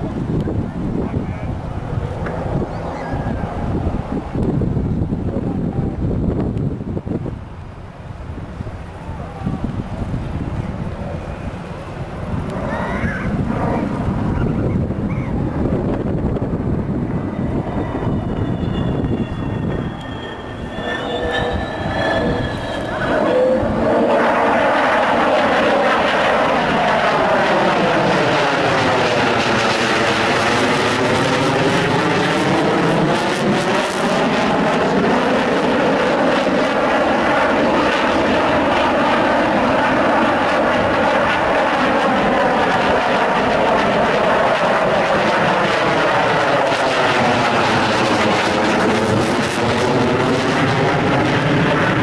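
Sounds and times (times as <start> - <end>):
fighter jet engines roaring: 0.0 - 52.0.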